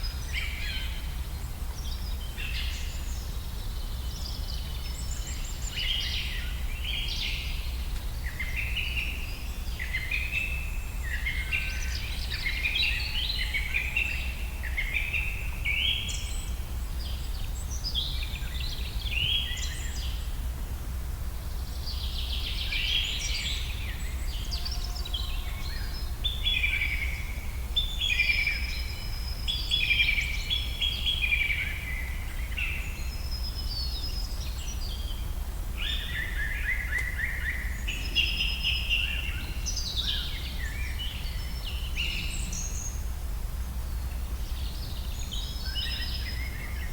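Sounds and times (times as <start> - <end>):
songbirds singing and chirping: 0.0 - 20.4, 21.2 - 46.9.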